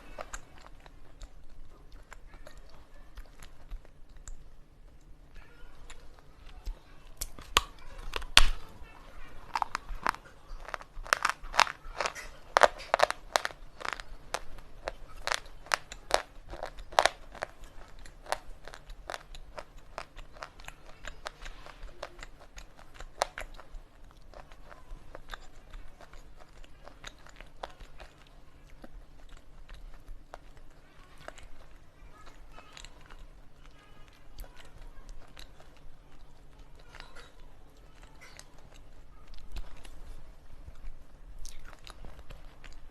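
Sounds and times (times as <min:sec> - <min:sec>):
slate pencils crunching when chewed: 0:00.0 - 0:05.2, 0:05.8 - 0:42.9.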